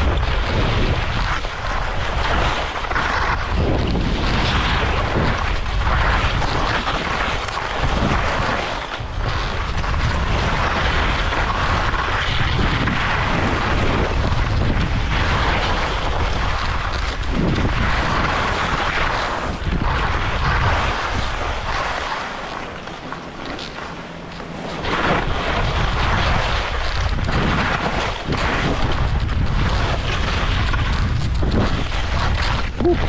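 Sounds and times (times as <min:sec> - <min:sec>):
skis scraping over snow: 0:00.0 - 0:33.0
wind rumbling on microphone: 0:00.0 - 0:33.0.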